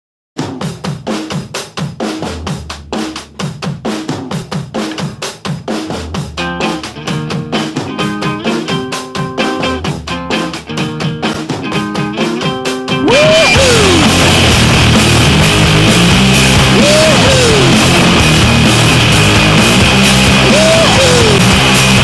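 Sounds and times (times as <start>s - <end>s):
fast drum kit beat: 0.4s - 22.0s.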